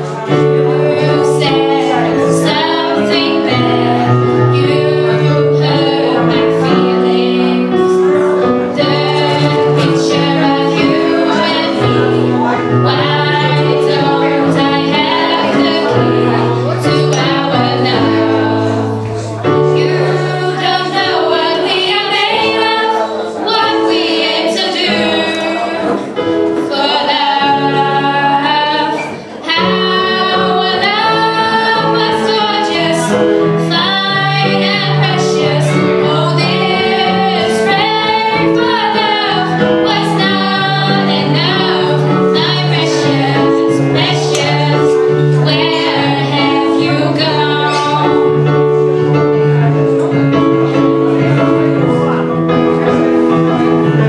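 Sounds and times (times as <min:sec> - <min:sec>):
women singing in harmony: 0:00.0 - 0:49.7
keyboard chords: 0:00.0 - 0:54.0.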